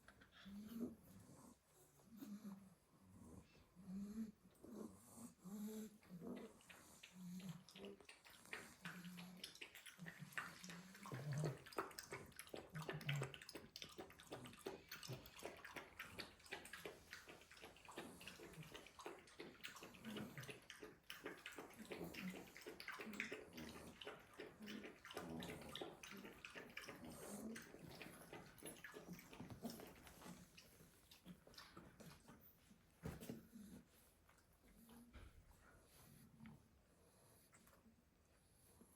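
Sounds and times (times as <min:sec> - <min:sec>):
puppies snoring and snuffling: 0:00.0 - 0:38.9.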